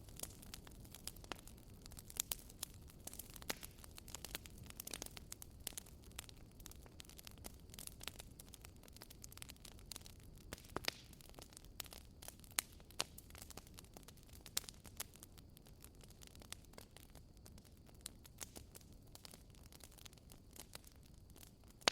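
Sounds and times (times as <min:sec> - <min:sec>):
low rumble of burning: 0:00.0 - 0:21.9
wood fire crackling and popping: 0:00.0 - 0:21.9.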